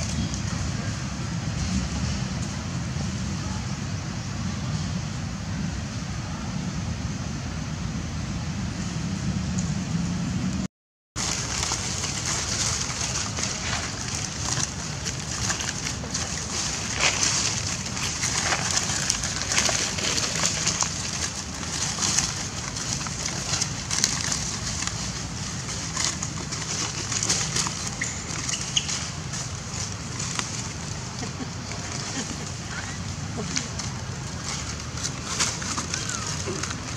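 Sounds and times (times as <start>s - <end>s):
crackles of animals on dry leaves: 0.0s - 5.7s, 11.2s - 36.9s.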